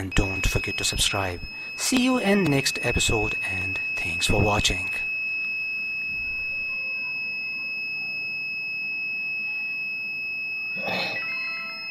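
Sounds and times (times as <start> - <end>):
high-pitched buzzer tone: 0.0 - 11.9.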